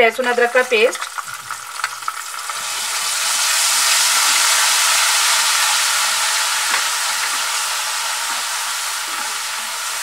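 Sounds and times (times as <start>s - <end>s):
paste sizzling in hot oil: 0.0s - 10.0s.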